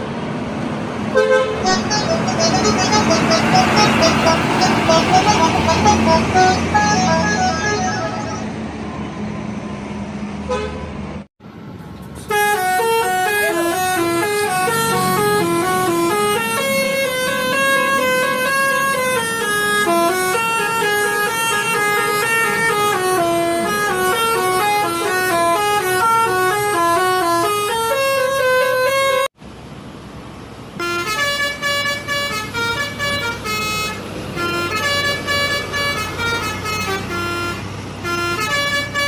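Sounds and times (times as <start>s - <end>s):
traffic noise: 0.0s - 39.0s
musical bus horn melody: 1.1s - 8.7s, 10.5s - 10.8s, 12.3s - 29.3s, 30.8s - 39.0s.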